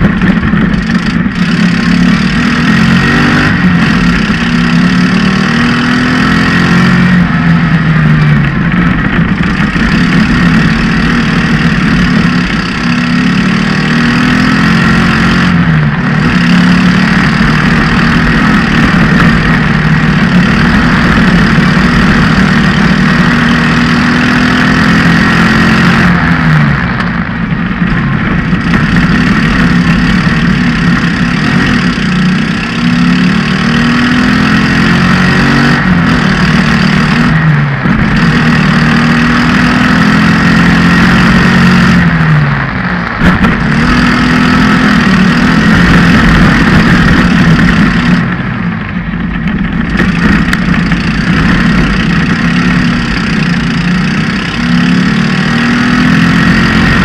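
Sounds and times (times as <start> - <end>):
buggy engine revving: 0.0 - 57.0
dense rushing noise: 0.0 - 57.0.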